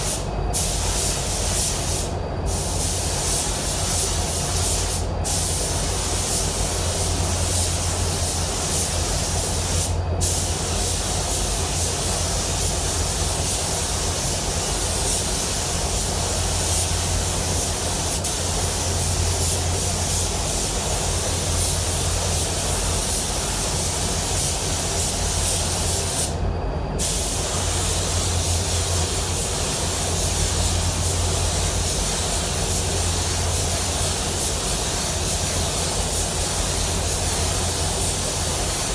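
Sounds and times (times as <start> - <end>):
paint spray gun hissing: 0.0 - 26.4, 27.0 - 38.9
steady low hum: 0.0 - 38.9.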